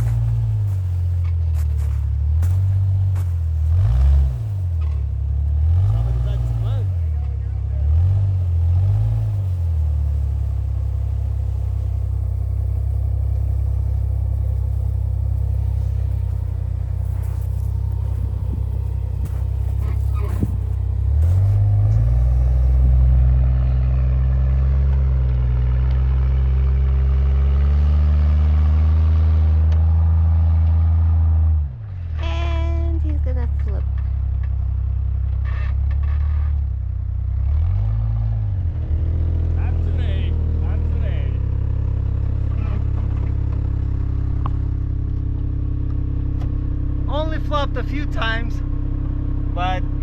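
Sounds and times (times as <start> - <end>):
engine droning under load: 0.0 - 50.0.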